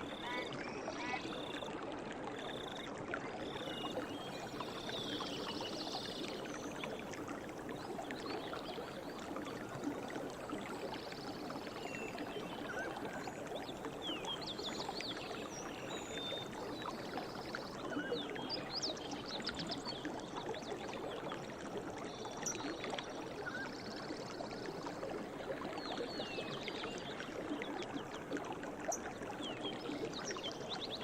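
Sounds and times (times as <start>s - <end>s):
stream water running: 0.0s - 31.0s.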